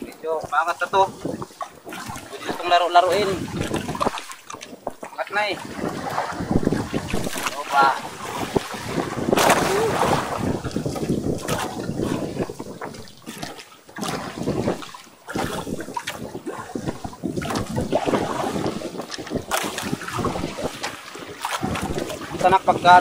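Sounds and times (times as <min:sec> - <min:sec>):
water sloshing against boat hull: 0:00.0 - 0:23.0
wind gusting over microphone: 0:00.0 - 0:23.0.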